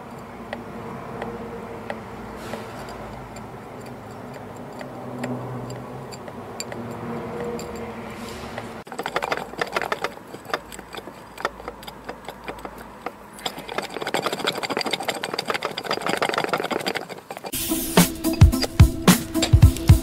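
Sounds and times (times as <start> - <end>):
ball bearing clicking and rattling: 0.0 - 20.0.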